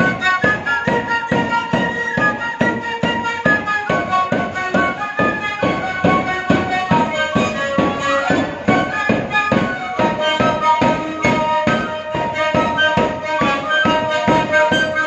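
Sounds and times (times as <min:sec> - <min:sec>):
held-note melody line: 0:00.0 - 0:15.0
steady drum beat: 0:00.0 - 0:15.0.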